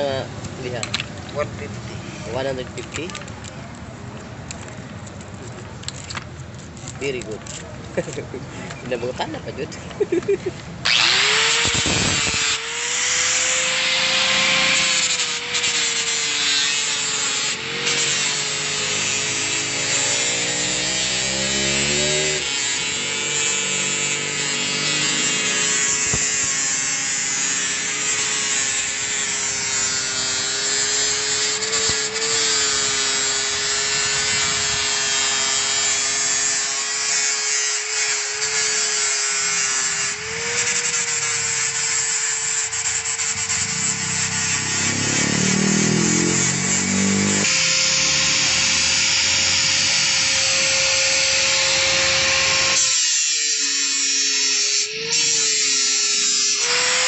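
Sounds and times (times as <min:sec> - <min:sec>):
angle grinder motor whine: 0:10.8 - 0:57.0.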